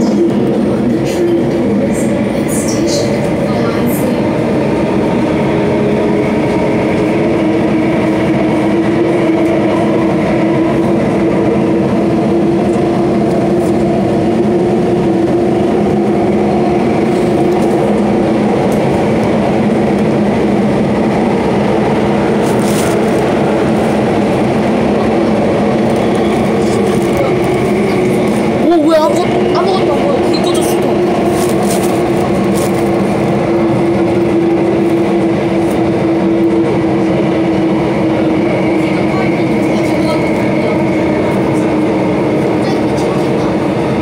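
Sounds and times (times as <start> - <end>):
metro train rumbling in tunnel: 0.0 - 44.0.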